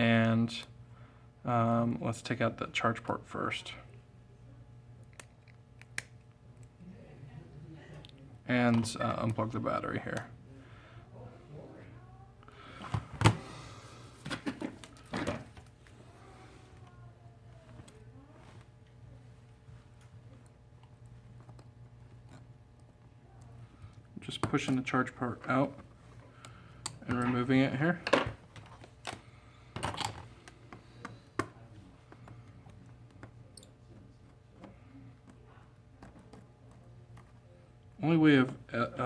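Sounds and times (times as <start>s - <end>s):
faint low hum: 0.0s - 39.0s.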